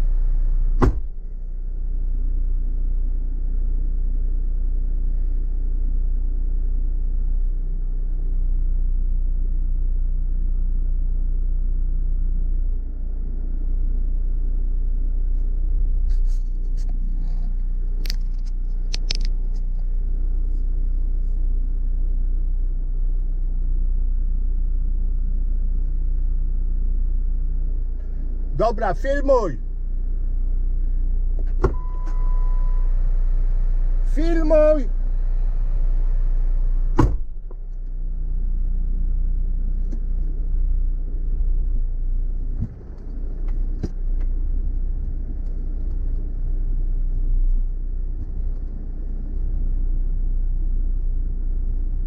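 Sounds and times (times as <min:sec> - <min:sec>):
car engine rumbling: 0:00.0 - 0:52.0.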